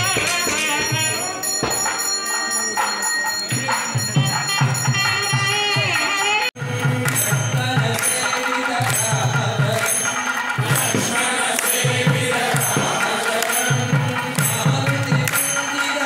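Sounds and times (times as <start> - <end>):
hand claps: 0.0 - 5.2, 6.8 - 16.0
chanted singing through microphone: 0.0 - 16.0
ringing metal strikes: 0.0 - 16.0.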